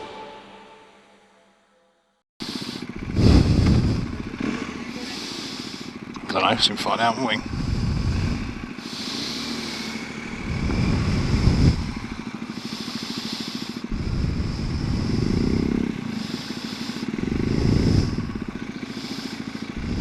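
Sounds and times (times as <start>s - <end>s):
motorcycle engine revving: 2.4s - 20.0s.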